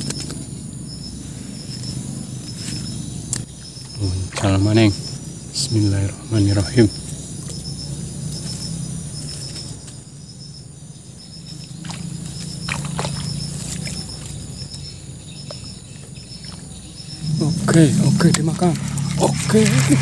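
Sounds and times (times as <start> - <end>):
insects chirping in trills: 0.0 - 20.0
low steady hum: 0.0 - 20.0.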